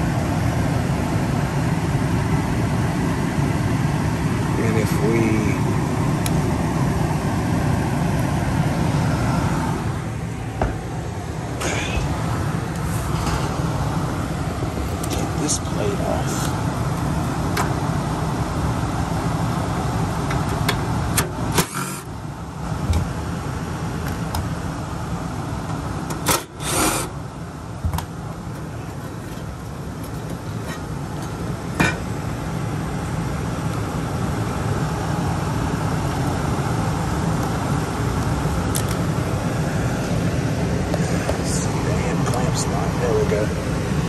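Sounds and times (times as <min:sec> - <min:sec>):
furnace blower running: 0:00.0 - 0:44.0.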